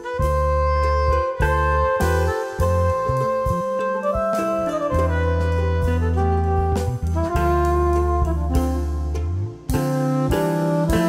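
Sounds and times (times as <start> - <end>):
held bass note: 0.0 - 11.0
instrumental background music: 0.0 - 11.0.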